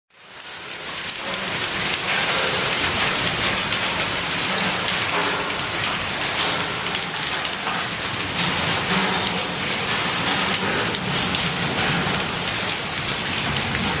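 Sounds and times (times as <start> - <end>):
hail and rain pelting down: 0.1 - 14.0.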